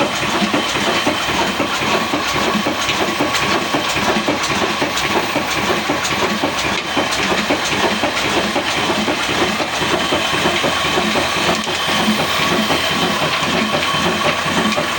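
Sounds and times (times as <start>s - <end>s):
diesel engine clattering: 0.0s - 14.9s
engine hiss: 0.0s - 14.9s.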